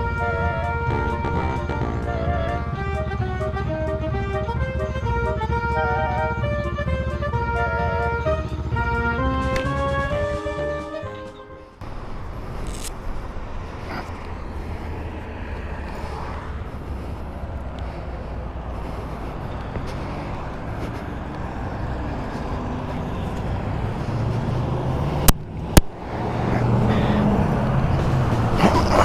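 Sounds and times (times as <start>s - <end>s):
motorcycle engine rumble: 0.0s - 29.0s
wind and road noise: 0.0s - 29.0s.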